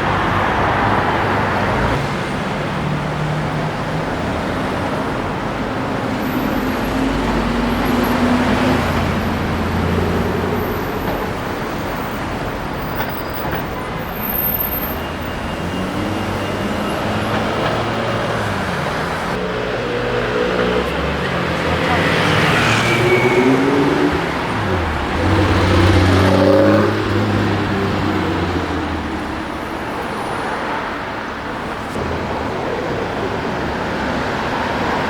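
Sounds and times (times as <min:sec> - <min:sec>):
street traffic hum: 0:00.0 - 0:35.0.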